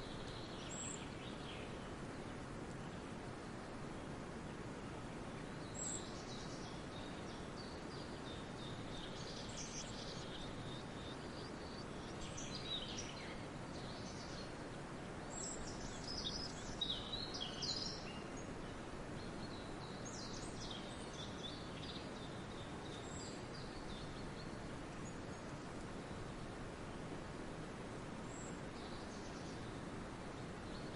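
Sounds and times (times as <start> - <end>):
forest background hiss: 0.0 - 30.9.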